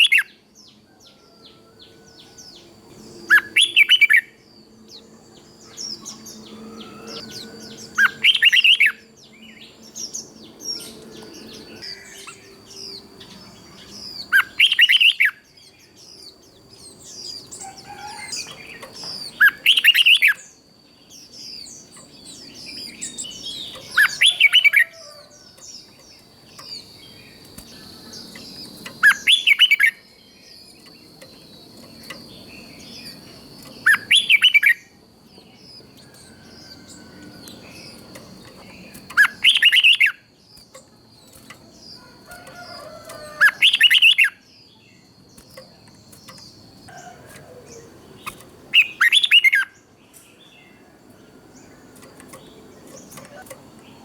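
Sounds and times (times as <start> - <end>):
bird singing: 0.0 - 54.0
faint bird chirps: 0.0 - 54.0.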